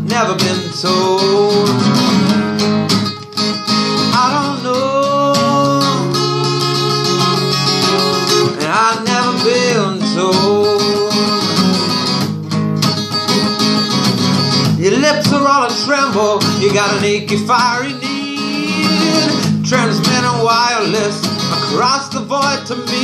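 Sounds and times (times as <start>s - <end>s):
man singing: 0.0s - 2.4s, 4.0s - 12.1s, 14.7s - 23.0s
acoustic guitar strumming: 0.0s - 23.0s.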